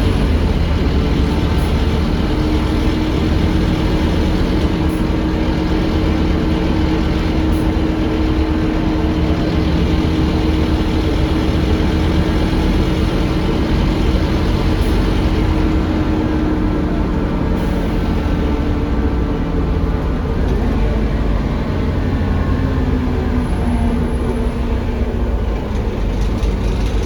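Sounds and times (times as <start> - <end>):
diesel bus engine running: 0.0 - 27.0
road noise: 0.0 - 27.0.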